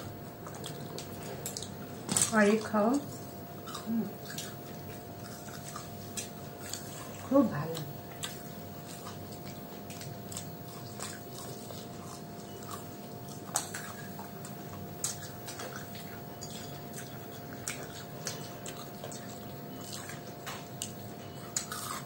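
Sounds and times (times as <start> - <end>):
crunching food: 0.0 - 22.0.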